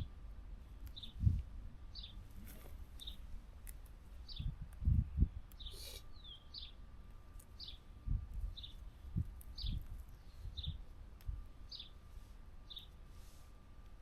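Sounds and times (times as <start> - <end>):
songbird chirping: 0.0 - 4.6, 5.2 - 13.5.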